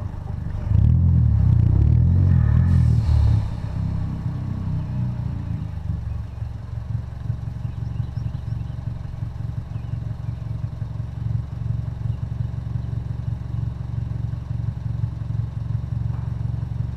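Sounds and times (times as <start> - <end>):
car engine idling with deep rumble: 0.0 - 16.9.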